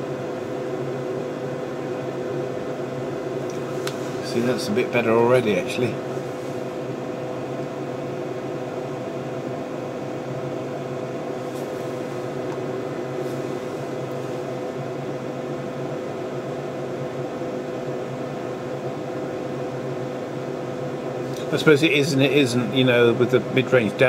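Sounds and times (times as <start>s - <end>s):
cooling fans whirring: 0.0s - 24.0s.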